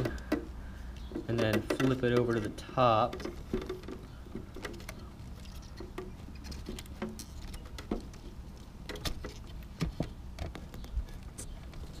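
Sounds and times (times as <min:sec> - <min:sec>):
plastic clicks and rustles: 0:00.0 - 0:12.0.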